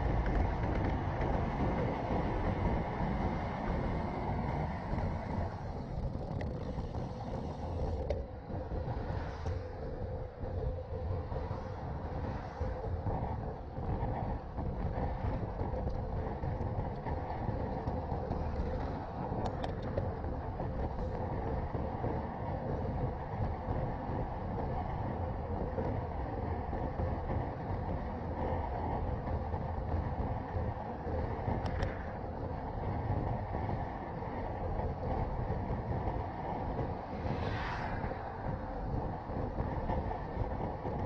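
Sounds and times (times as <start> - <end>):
bike tyre rumble on asphalt: 0.0 - 41.0
wind on camera microphone: 0.0 - 41.0.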